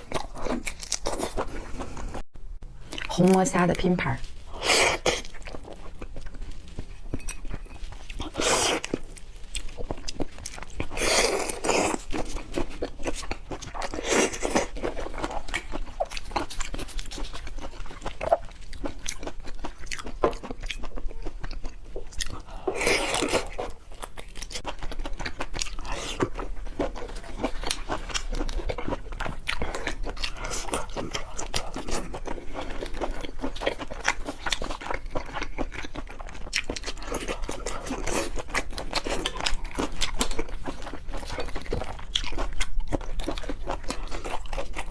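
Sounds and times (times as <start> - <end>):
person chewing crunchy food: 0.0 - 2.2, 2.8 - 44.9.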